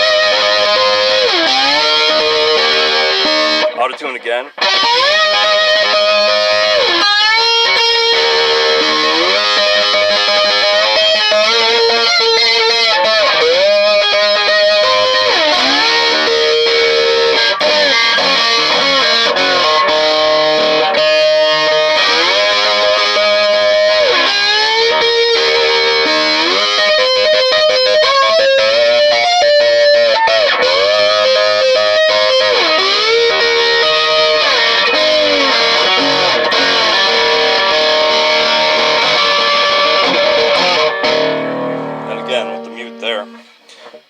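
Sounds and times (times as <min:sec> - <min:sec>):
electric guitar with bent notes: 0:00.0 - 0:44.0.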